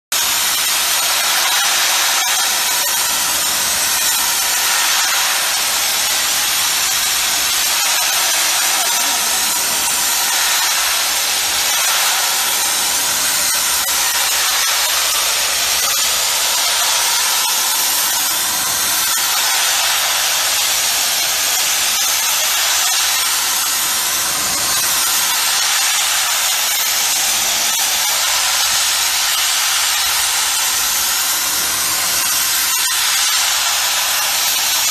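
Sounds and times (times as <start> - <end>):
high-pressure water jet hissing: 0.1 - 34.9.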